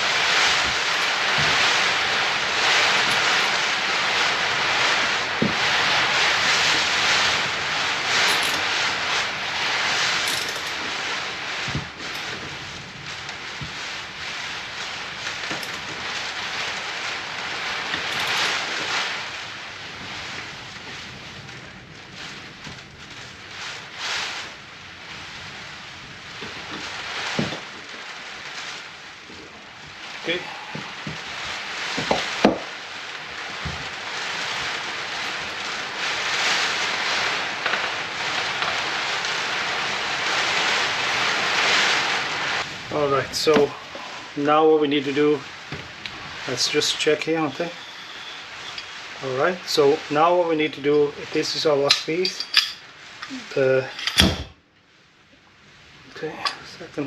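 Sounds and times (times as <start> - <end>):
rain hissing: 0.0 - 57.0.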